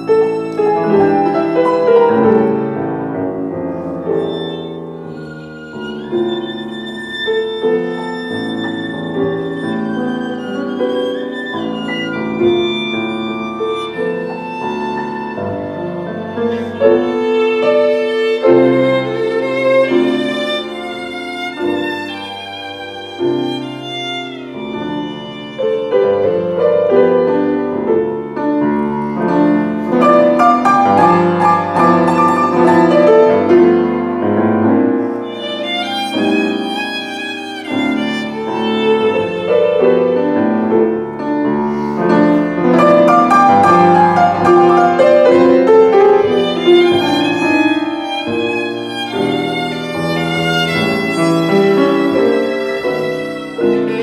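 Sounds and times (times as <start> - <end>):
piano chords: 0.0 - 54.0
violin bowed melody: 0.0 - 54.0.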